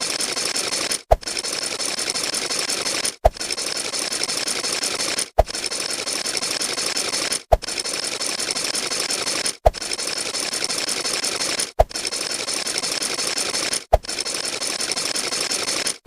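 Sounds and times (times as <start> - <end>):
mechanical ratcheting clicks: 0.0 - 16.0.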